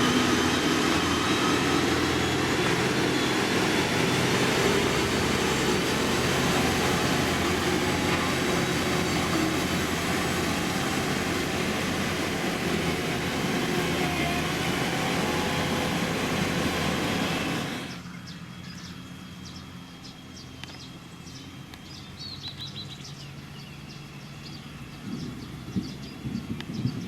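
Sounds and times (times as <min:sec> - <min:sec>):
birds chirping: 0:00.0 - 0:27.0
diesel engine of heavy machinery: 0:00.0 - 0:27.0.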